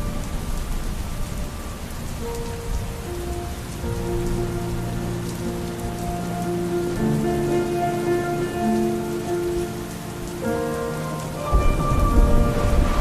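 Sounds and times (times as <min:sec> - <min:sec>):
rain falling on a surface: 0:00.0 - 0:13.0
slow reverberant music: 0:00.0 - 0:13.0.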